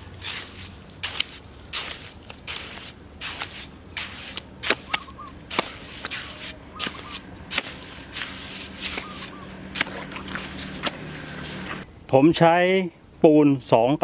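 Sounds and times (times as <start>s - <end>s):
hand tool scraping mortar: 0.0s - 11.8s.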